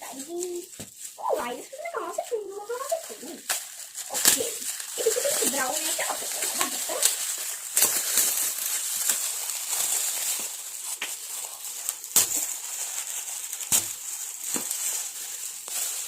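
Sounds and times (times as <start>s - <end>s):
packaging tearing and rustling: 0.0s - 16.0s.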